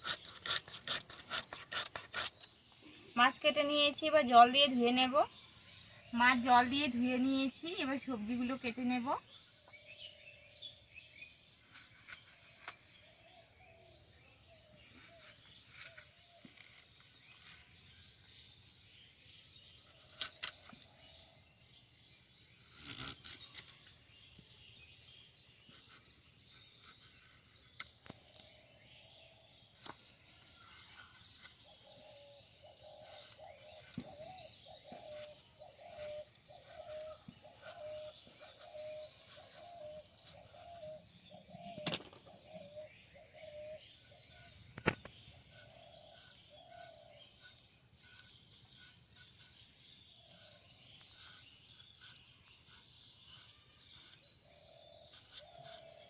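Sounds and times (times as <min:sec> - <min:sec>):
faint bird chirping: 0:00.0 - 0:56.0.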